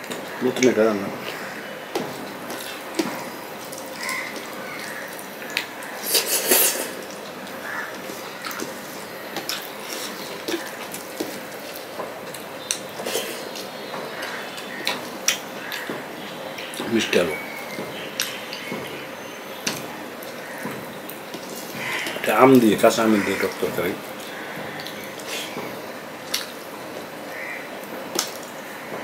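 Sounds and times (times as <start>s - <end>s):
wet chewing sounds: 0.0s - 29.0s.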